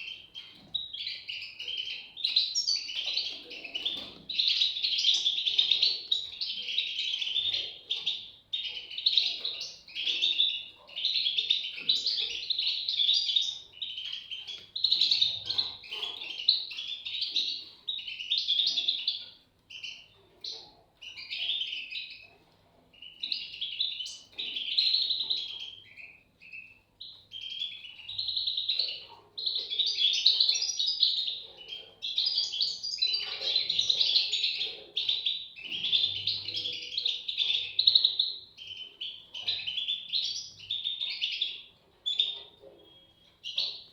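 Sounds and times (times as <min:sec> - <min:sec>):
bird chicks twittering: 0:00.0 - 0:43.9.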